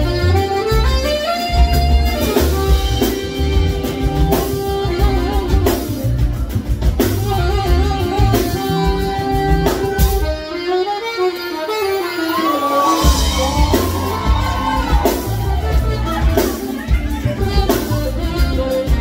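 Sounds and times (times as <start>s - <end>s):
bass: 0.0s - 19.0s
drum kit: 0.0s - 19.0s
saxophone melody: 0.0s - 19.0s.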